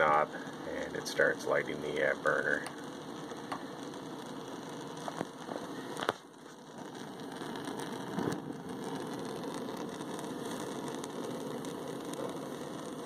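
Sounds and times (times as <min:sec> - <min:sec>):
heater flame hissing: 0:00.0 - 0:13.0.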